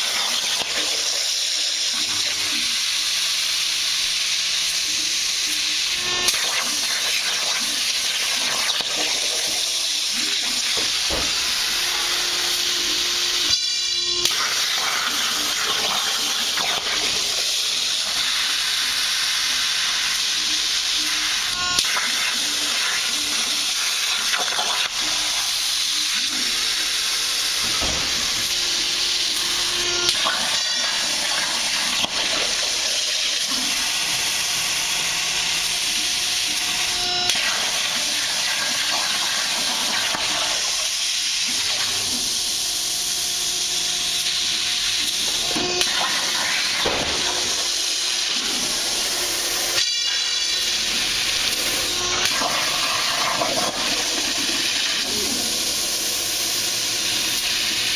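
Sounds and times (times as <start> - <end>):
plasma cutter hissing: 0.0 - 57.9.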